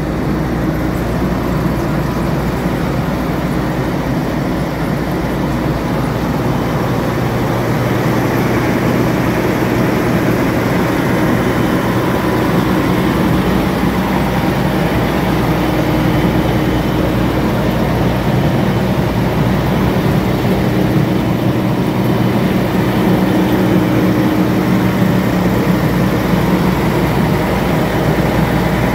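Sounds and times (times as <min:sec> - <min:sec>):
combine harvester engine running: 0:00.0 - 0:28.9.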